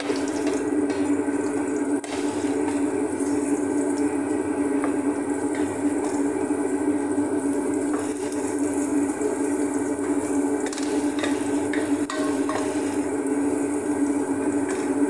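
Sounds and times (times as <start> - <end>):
onion sauteing in oil: 0.0 - 15.0
rushing kitchen noise: 0.0 - 15.0.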